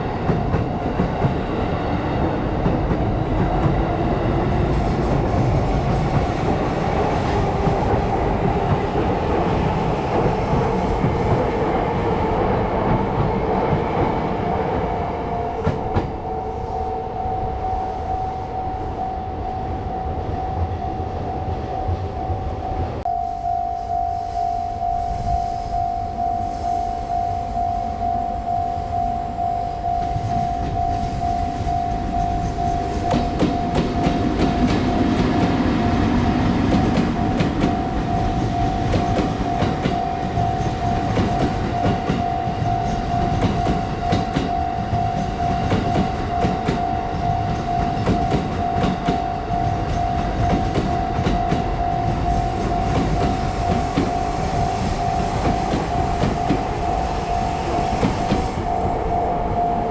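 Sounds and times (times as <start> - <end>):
level crossing alarm ringing: 5.8 - 59.9.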